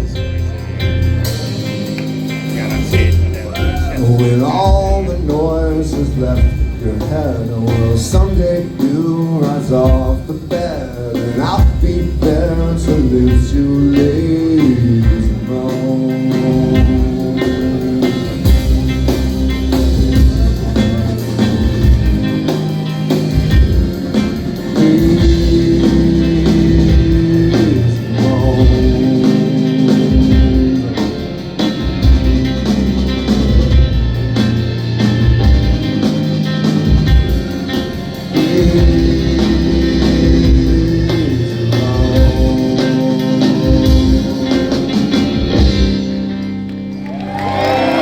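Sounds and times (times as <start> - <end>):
bass notes: 0.0 - 48.0
drums: 0.0 - 48.0
live rock band playing: 0.0 - 48.0.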